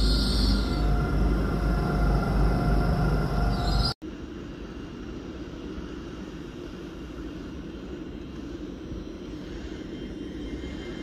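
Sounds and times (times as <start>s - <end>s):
train droning at platform: 0.0s - 11.0s.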